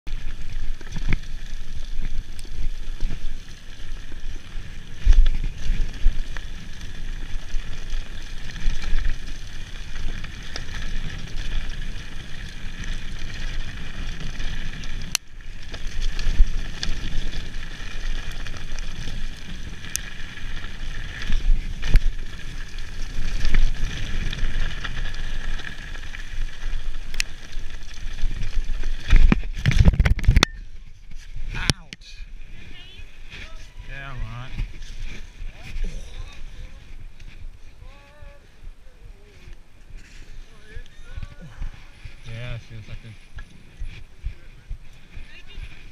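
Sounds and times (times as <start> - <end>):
bike tyres rumbling on dirt: 0.1 - 45.9.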